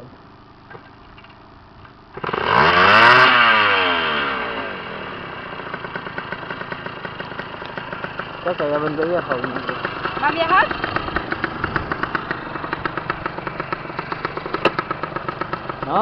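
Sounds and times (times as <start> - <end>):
two-stroke engine revving and idling: 2.1 - 16.0.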